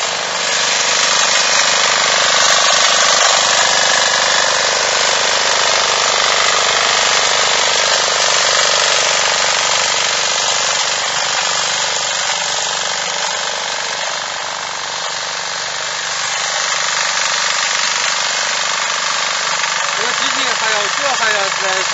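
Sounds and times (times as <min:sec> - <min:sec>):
tiller engine clattering: 0:00.0 - 0:21.9.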